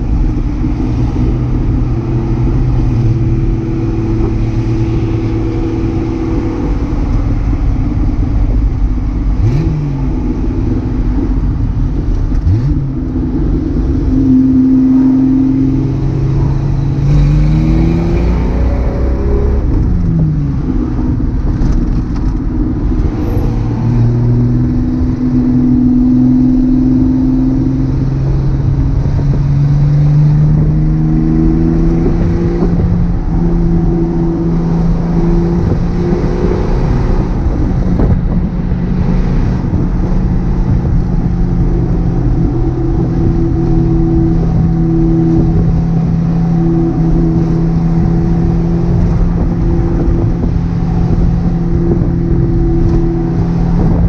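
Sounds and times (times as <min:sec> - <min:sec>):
car engine and exhaust accelerating: 0:00.0 - 0:54.0.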